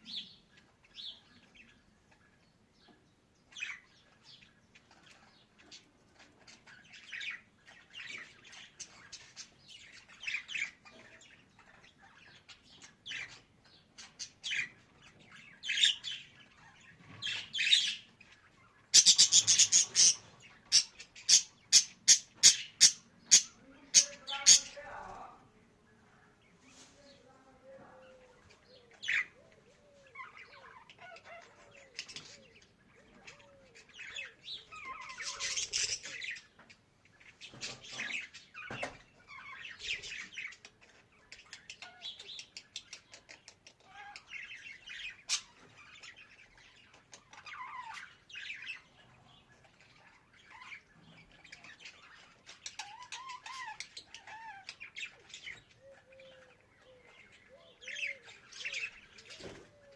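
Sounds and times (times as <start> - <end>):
budgerigars chirping and warbling: 0.0 - 59.9.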